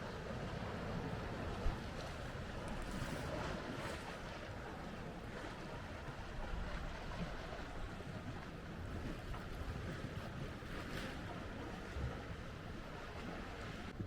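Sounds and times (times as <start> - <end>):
sea waves on shore: 0.0 - 14.0.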